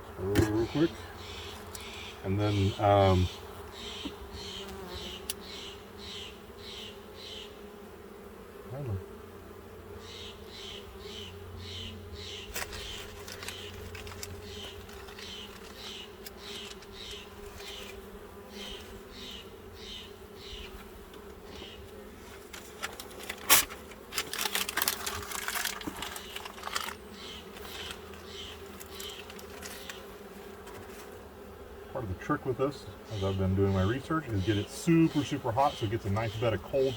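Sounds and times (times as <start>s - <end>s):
bee smoker bellows puffing: 0.0s - 7.6s, 10.0s - 36.9s
honeybees humming: 0.0s - 36.9s.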